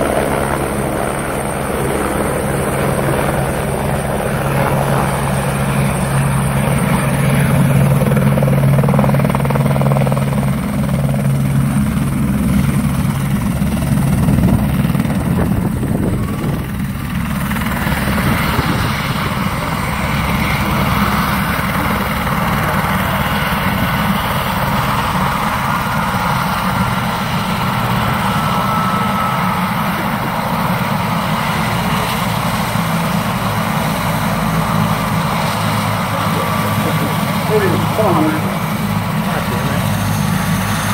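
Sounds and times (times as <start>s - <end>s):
helicopter engine running: 0.0s - 40.9s
helicopter rotor chopping: 0.0s - 40.9s.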